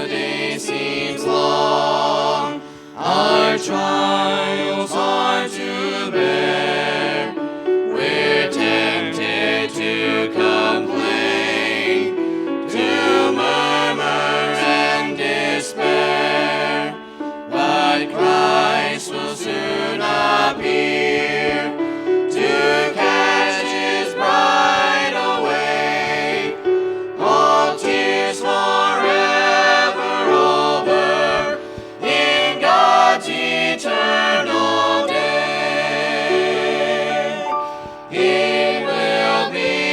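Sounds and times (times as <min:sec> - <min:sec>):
group singing gospel in harmony: 0:00.0 - 0:39.9.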